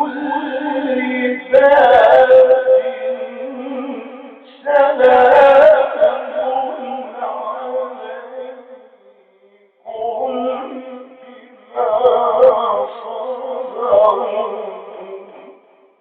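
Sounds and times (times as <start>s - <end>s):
man chanting melodically: 0.0s - 15.9s.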